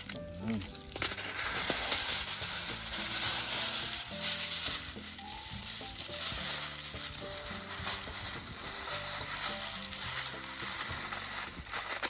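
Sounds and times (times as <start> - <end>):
simple background melody: 0.0 - 12.0
steady high hiss: 0.0 - 12.0.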